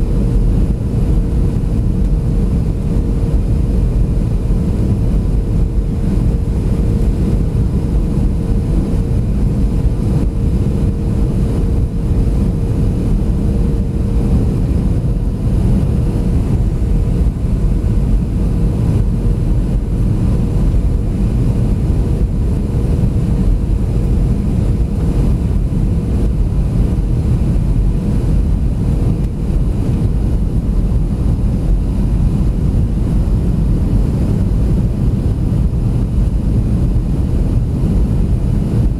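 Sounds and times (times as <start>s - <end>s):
jet engines droning: 0.0s - 38.9s
rush of airflow: 0.0s - 38.9s
steady hum: 0.0s - 38.9s.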